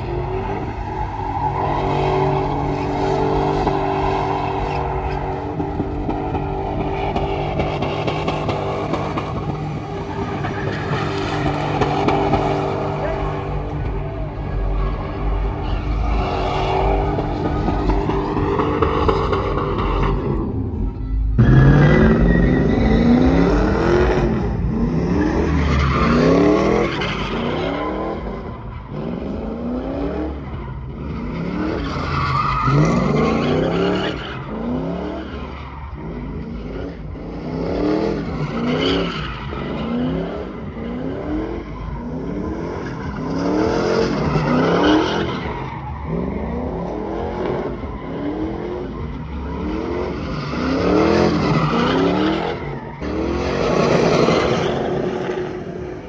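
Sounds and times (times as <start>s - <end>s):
tires squealing on pavement: 0.0s - 56.0s.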